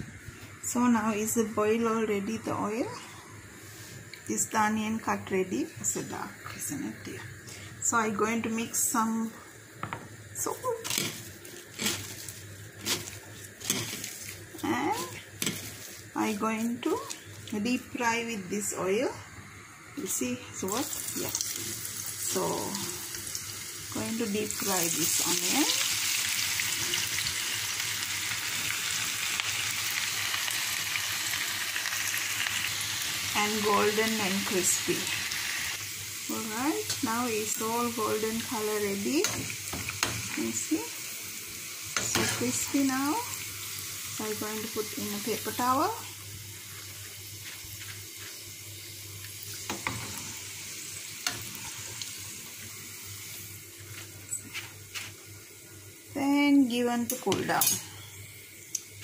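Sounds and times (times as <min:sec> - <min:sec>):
onion sizzling in hot oil: 0:00.0 - 0:59.0.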